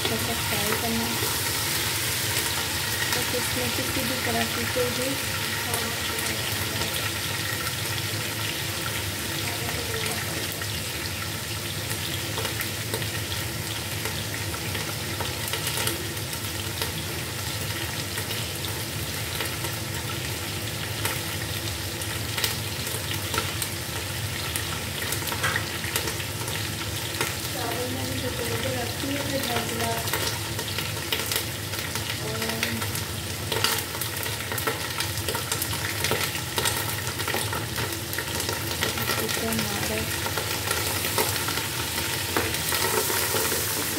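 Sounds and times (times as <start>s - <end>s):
chicken frying sizzle: 0.0s - 43.9s.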